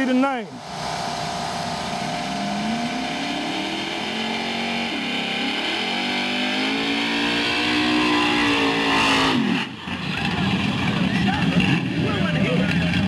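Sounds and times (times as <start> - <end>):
car engine revving: 0.5 - 13.0.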